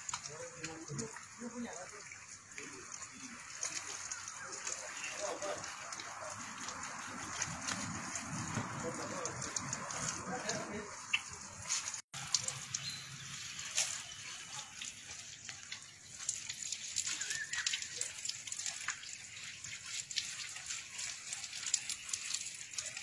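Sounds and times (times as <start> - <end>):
outdoor shower water splashing: 0.0 - 23.0.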